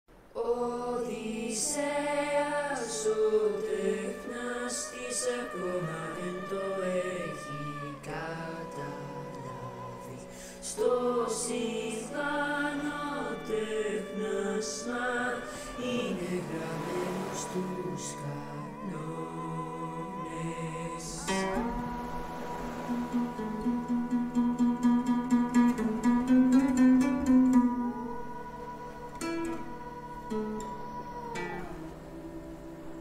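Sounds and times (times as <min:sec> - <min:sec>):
choir singing held notes: 0:00.4 - 0:33.0.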